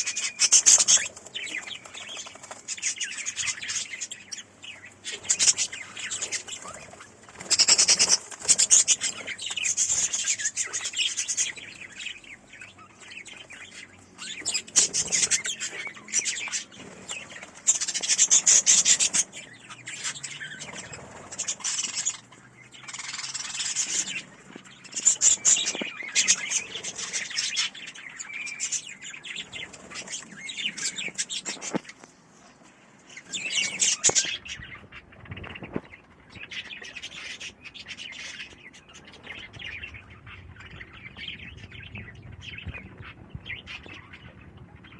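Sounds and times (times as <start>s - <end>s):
budgerigars chirping and chattering: 0.0s - 44.9s.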